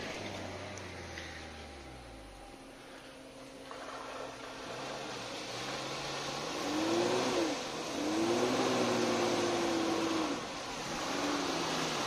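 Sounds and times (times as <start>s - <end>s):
suv engine revving: 0.0s - 12.0s.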